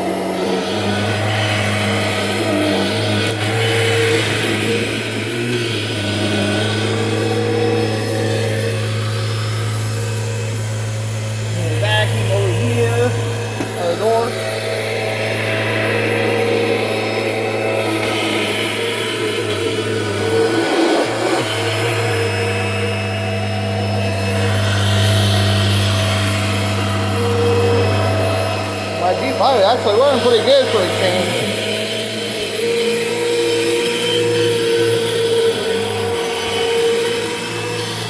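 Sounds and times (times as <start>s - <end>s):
vacuum cleaner motor hum: 0.0s - 38.0s.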